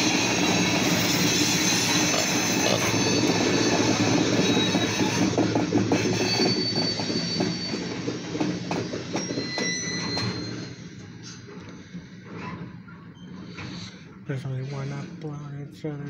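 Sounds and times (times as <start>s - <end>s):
high wheel squeals: 0.0s - 14.0s.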